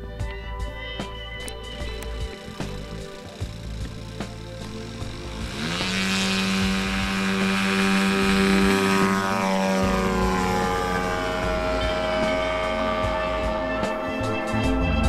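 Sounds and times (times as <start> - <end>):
model plane propeller engine: 0.2 - 15.0.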